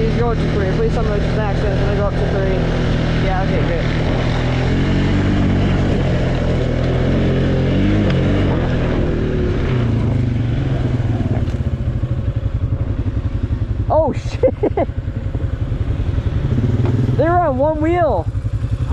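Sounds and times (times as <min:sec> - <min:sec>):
atv engine running: 0:00.0 - 0:18.9.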